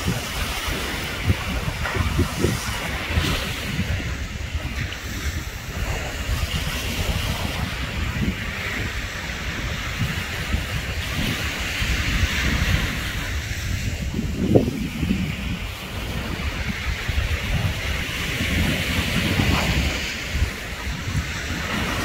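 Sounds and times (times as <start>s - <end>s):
surf breaking over rocks: 0.0s - 22.0s
wind buffeting microphone: 0.0s - 22.0s.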